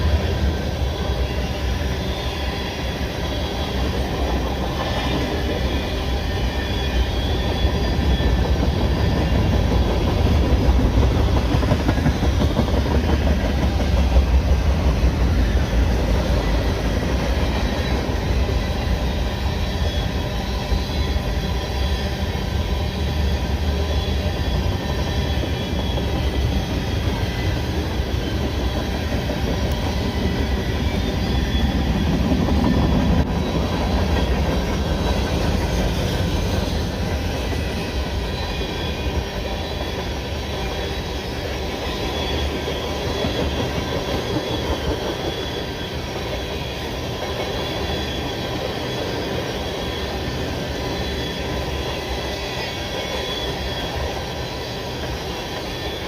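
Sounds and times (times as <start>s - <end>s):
high wheel squeal: 0.0s - 56.0s
rumble of train wheels on track: 0.0s - 56.0s.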